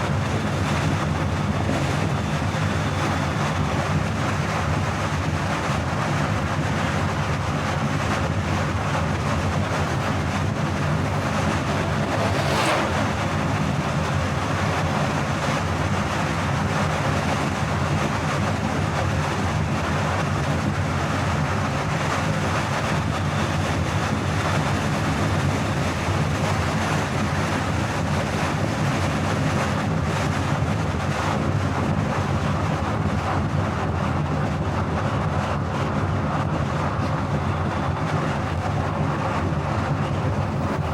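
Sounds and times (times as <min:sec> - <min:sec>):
car engine and tyres droning: 0:00.0 - 0:40.9
wind noise: 0:00.0 - 0:40.9.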